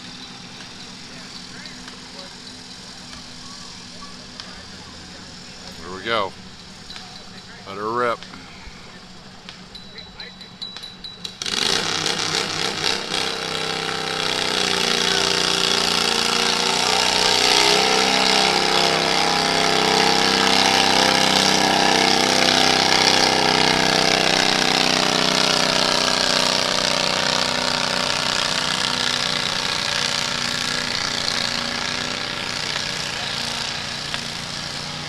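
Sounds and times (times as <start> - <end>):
tractor engine running hard: 0.0 - 35.0.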